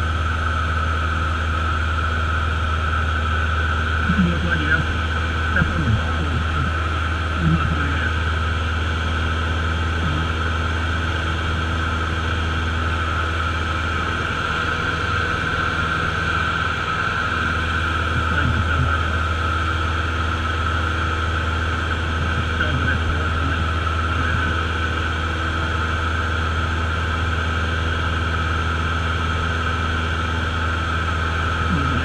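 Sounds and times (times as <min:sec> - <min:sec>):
propeller aircraft engine: 0:00.0 - 0:32.0.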